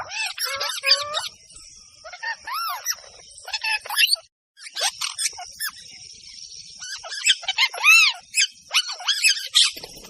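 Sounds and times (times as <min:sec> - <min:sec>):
parrots chirping and squawking: 0:00.0 - 0:05.9, 0:06.8 - 0:10.0
high-pitched bird chatter: 0:00.0 - 0:10.0.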